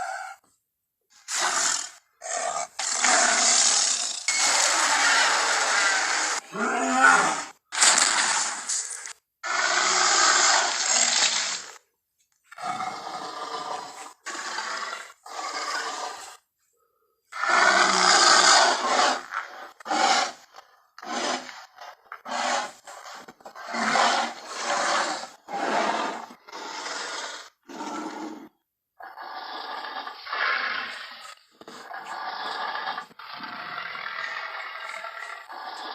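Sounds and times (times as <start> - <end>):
gorilla roars and grunts: 1.3 - 11.8, 12.5 - 16.4, 17.3 - 35.9.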